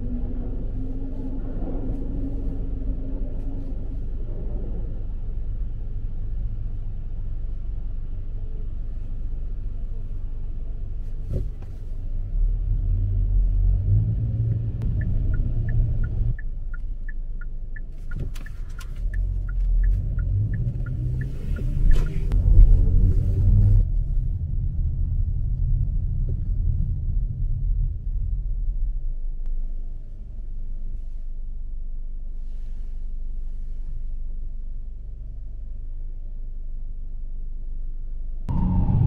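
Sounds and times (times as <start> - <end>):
car driving rumble: 0.0 - 39.0.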